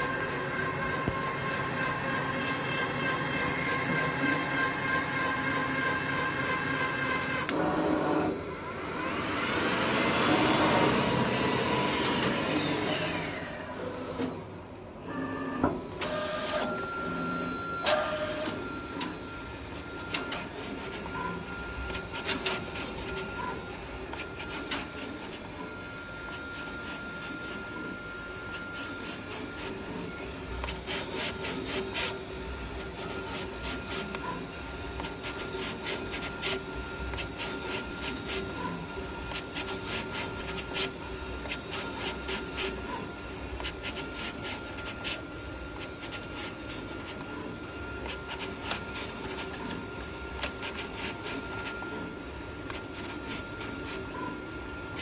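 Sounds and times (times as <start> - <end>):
cutting plotter humming: 0.0 - 55.0.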